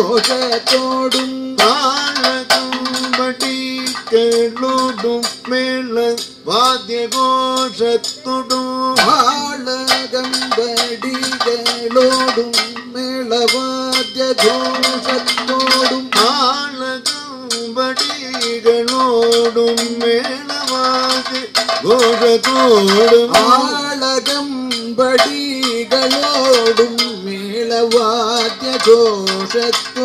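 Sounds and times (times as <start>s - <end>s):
drum strokes: 0.0s - 30.0s
man singing long held notes: 0.0s - 30.0s
metallic cymbal strikes: 0.0s - 30.0s.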